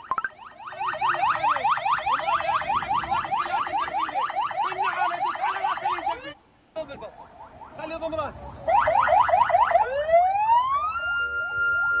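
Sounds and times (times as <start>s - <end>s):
vehicle siren yelping: 0.0s - 6.4s, 7.2s - 12.0s.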